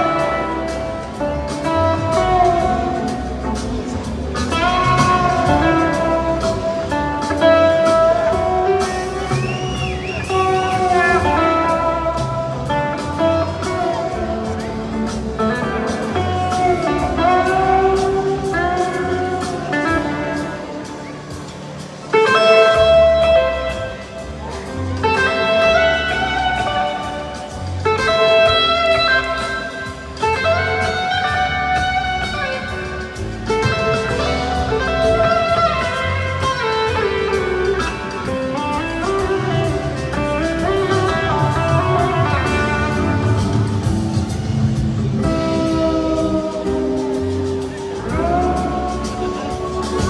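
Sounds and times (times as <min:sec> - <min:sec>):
bass and drums: 0:00.0 - 0:50.0
electric guitar lead: 0:00.0 - 0:50.0.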